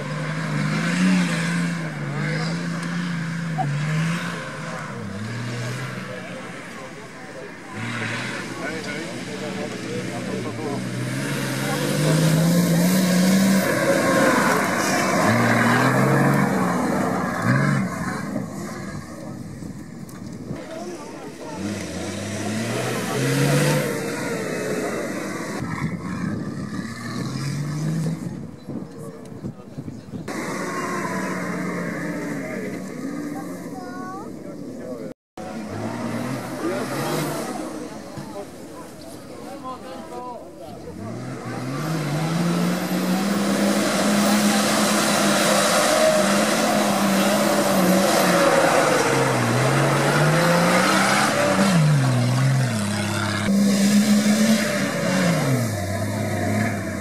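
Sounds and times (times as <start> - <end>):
engine revving under load: 0.0 - 19.5, 20.5 - 28.8, 30.3 - 39.8, 40.8 - 57.0.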